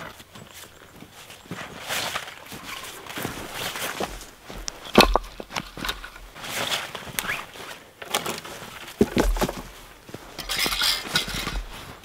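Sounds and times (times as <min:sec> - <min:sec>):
footsteps in snow and brush: 0:00.0 - 0:12.0.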